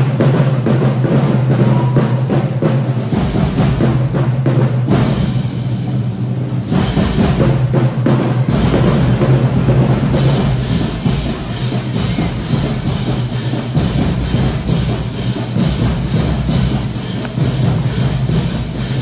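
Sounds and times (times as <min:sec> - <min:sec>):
drumline beat: 0:00.0 - 0:19.0
marching band brass: 0:00.0 - 0:19.0.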